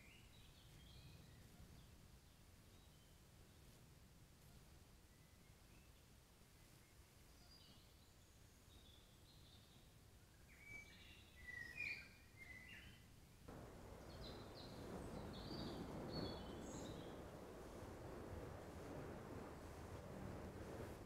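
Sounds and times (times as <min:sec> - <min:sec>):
faint birdsong chirping: 0:00.0 - 0:03.8, 0:04.4 - 0:20.8
microphone hiss: 0:00.0 - 0:21.0.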